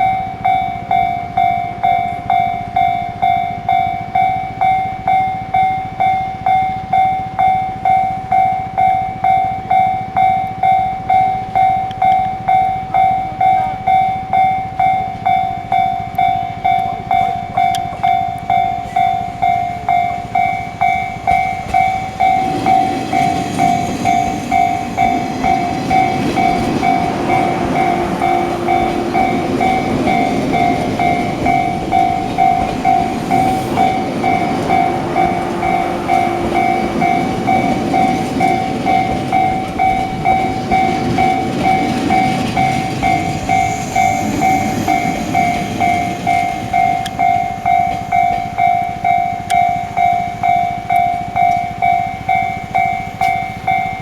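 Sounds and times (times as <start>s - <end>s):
level crossing warning bell: 0.0s - 54.0s
train rumble and wheel clatter: 0.0s - 54.0s.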